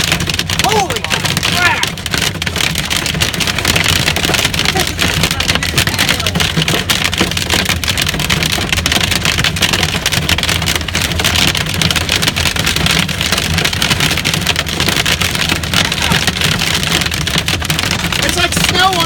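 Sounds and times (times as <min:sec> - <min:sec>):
hail and rain clattering on vehicle roof: 0:00.0 - 0:19.0
road rumble: 0:00.0 - 0:19.0.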